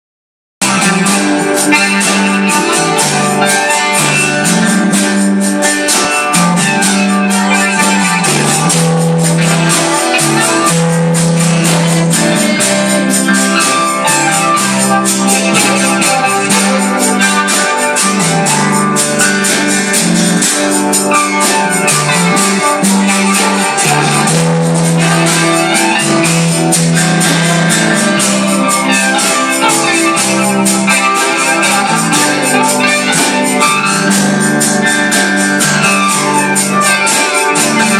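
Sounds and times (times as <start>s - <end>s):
steady dense beat: 0.6s - 37.9s
sustained keyboard chords: 0.6s - 37.9s.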